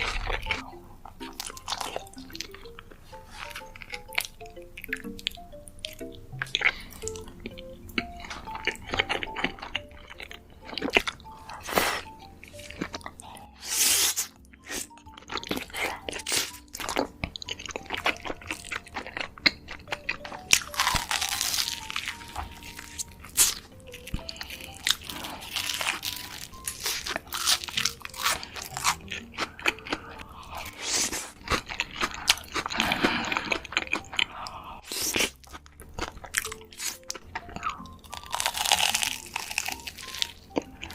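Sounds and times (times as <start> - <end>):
crunchy chewing: 0.0 - 40.9
soft background music: 0.0 - 40.9.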